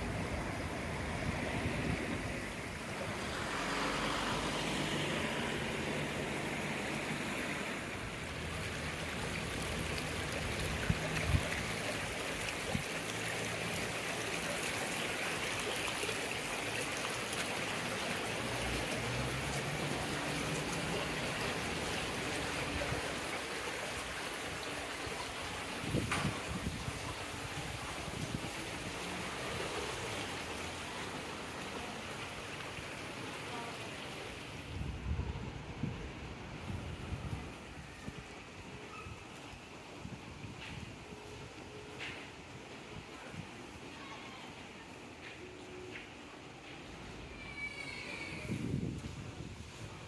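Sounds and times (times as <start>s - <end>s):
fountain water splashing: 0.0s - 47.6s.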